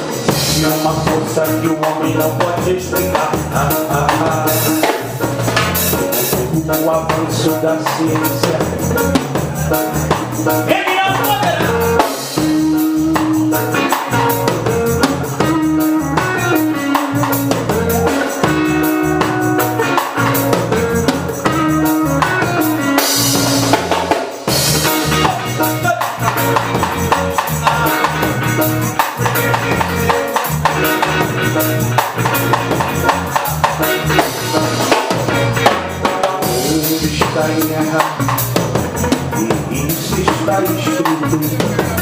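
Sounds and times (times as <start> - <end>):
live reggae band playing: 0.0 - 42.0.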